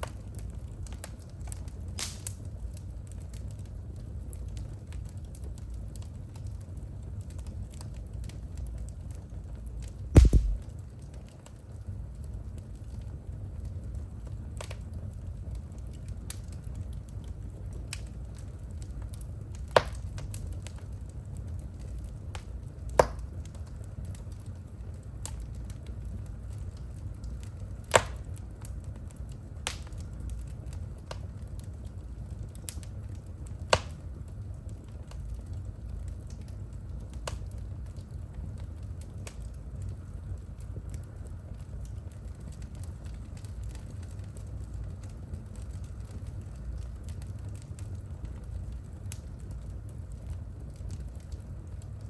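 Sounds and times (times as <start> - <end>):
fire crackles and pops: 0.0 - 52.0
fire flames rumbling: 0.0 - 52.0.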